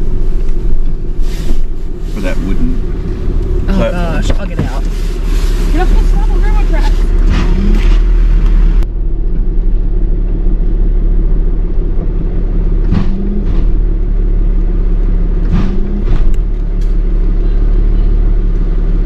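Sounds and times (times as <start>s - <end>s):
truck engine low rumble: 0.0s - 19.0s.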